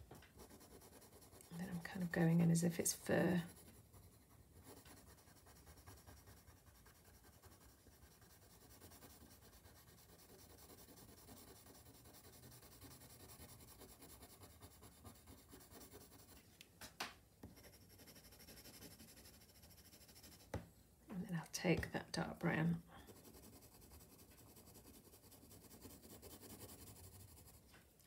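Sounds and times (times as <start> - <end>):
pencil scratching on paper: 0.3 - 16.4, 17.4 - 20.6, 22.9 - 27.6.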